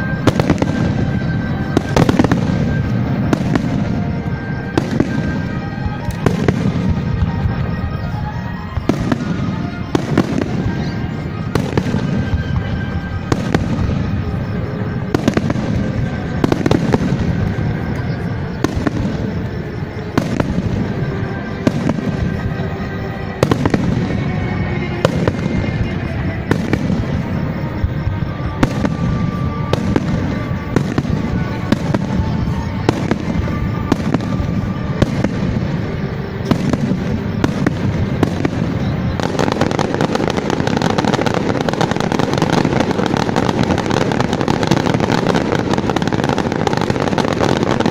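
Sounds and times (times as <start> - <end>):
music playing: 0.0 - 47.9.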